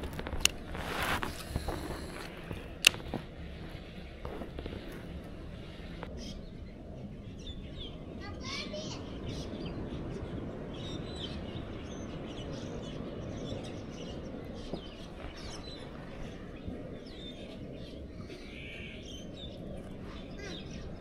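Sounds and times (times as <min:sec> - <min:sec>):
low outdoor background rush: 0:00.0 - 0:21.0
small birds chirping: 0:00.0 - 0:21.0.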